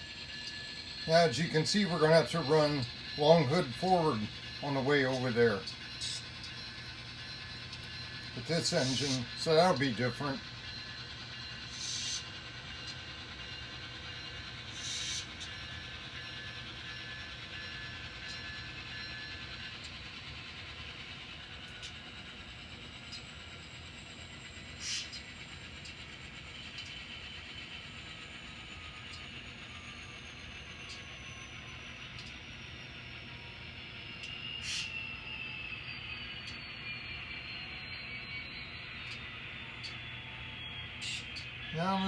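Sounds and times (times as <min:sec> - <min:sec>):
model train motor whine: 0:00.0 - 0:42.0.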